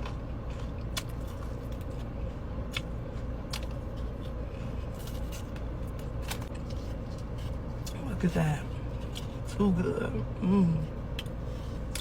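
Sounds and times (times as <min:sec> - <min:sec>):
crunching and chewing: 0:00.0 - 0:08.0, 0:08.7 - 0:09.6, 0:11.1 - 0:12.0
car hum: 0:00.0 - 0:12.0.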